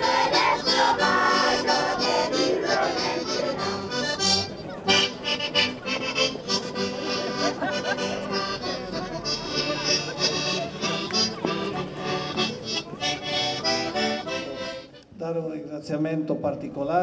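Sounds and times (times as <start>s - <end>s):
folk music: 0.0s - 15.2s.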